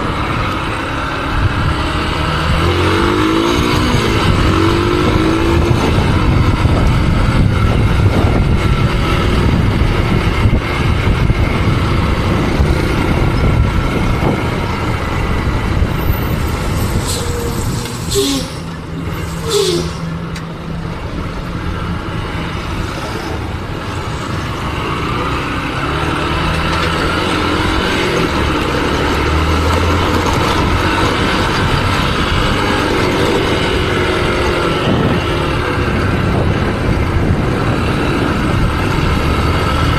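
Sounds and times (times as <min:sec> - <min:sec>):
motorcycle riding on road: 0:00.0 - 0:39.9
wind rushing over microphone: 0:00.0 - 0:39.9.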